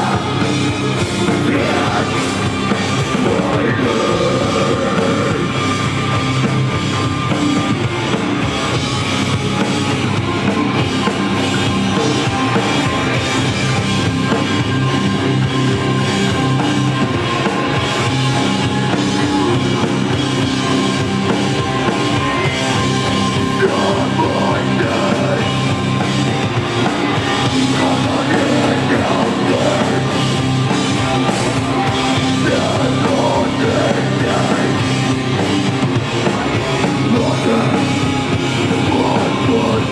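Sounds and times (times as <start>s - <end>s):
drum kit playing: 0.0s - 39.9s
rock band playing live: 0.0s - 39.9s.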